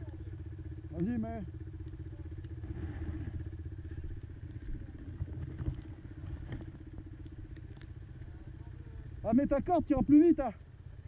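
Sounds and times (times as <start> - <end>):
quad engine idling: 0.0 - 11.0.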